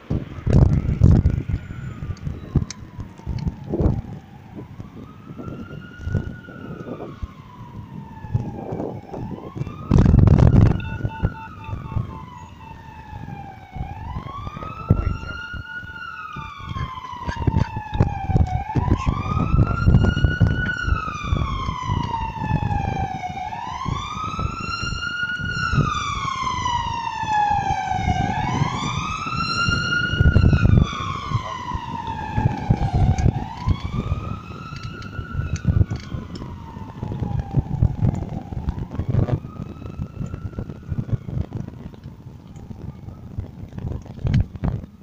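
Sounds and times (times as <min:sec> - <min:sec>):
emergency siren wailing: 0:00.0 - 0:45.0.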